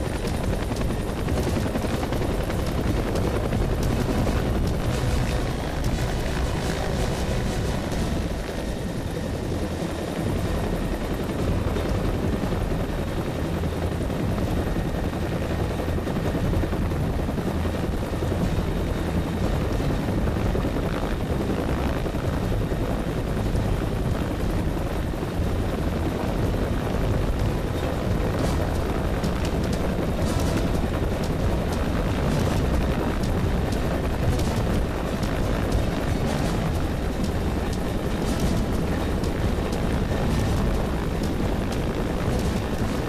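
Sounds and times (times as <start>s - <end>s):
helicopter hovering: 0.0s - 43.0s.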